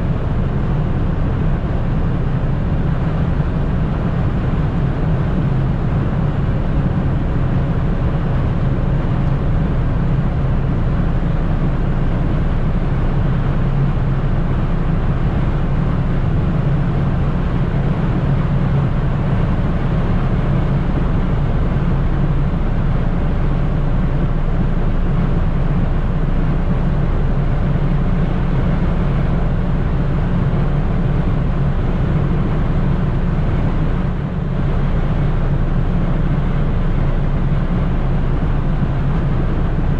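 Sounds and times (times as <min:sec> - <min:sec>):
car engine drone: 0:00.0 - 0:39.9.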